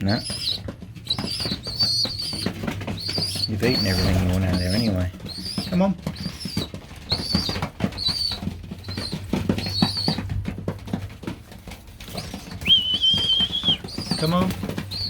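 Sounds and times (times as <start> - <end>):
pigeons high thin calls: 0.0 - 10.4, 11.9 - 15.0.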